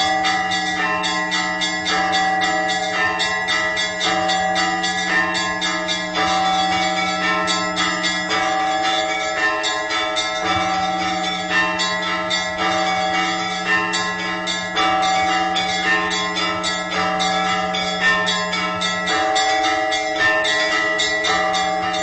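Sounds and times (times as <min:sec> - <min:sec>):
church bells ringing: 0:00.0 - 0:22.0
deep bell humming: 0:00.0 - 0:22.0.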